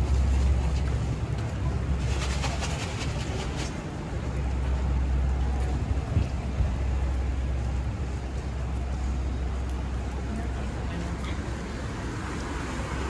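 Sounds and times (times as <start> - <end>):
traffic rumble on wet road: 0.0 - 13.0.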